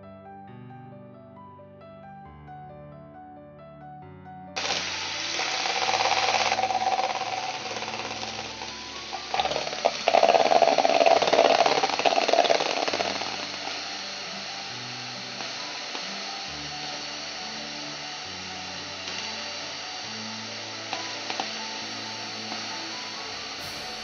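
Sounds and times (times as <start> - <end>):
soft background music: 0.0 - 24.0
electric hand mixer whirring: 4.6 - 24.0
mixer clicks: 4.6 - 24.0.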